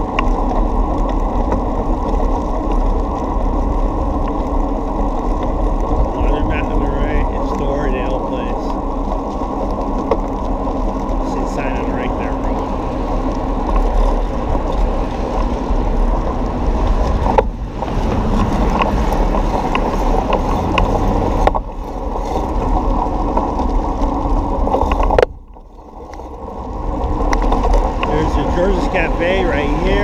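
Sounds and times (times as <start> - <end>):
bicycle clicks and rattles: 0.0 - 30.0
road rumble: 0.0 - 30.0
wind buffeting microphone: 0.0 - 30.0.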